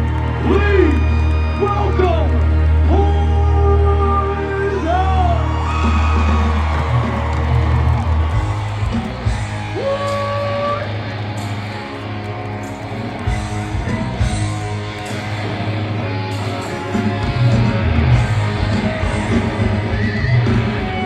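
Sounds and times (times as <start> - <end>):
electric guitar: 0.0 - 21.0
live rock band playing: 0.0 - 21.0.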